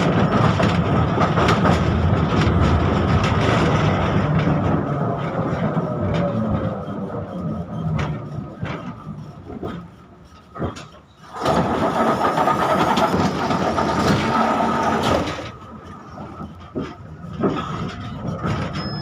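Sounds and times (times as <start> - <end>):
tram running noise: 0.0 - 19.0.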